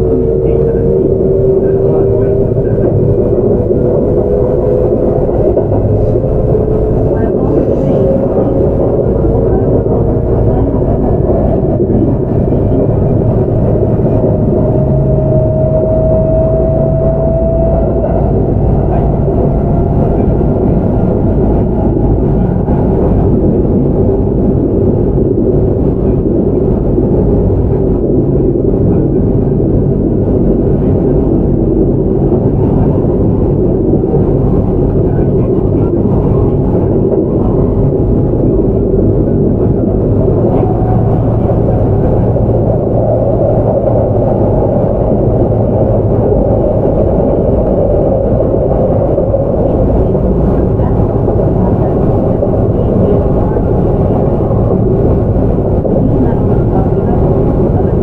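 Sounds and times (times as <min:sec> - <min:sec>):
low steady hum: 0:00.0 - 0:58.0
train wheels rumbling on rail: 0:00.0 - 0:58.0.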